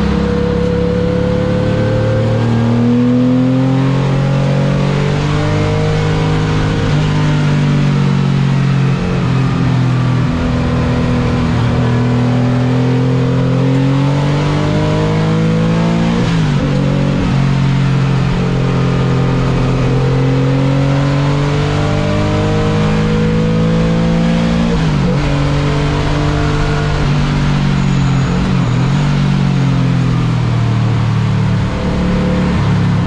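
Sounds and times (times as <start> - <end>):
car engine running hard: 0.0 - 33.0.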